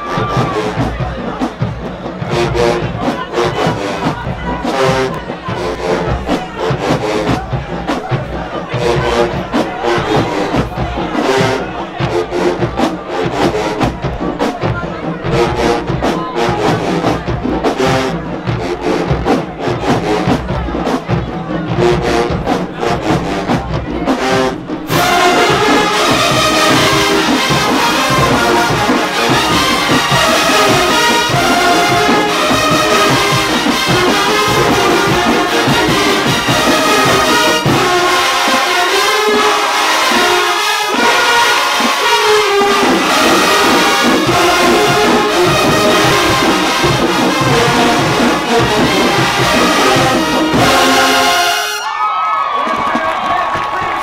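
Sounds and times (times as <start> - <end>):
brass section playing: 0.0 - 52.5
marching drumline: 0.0 - 54.0.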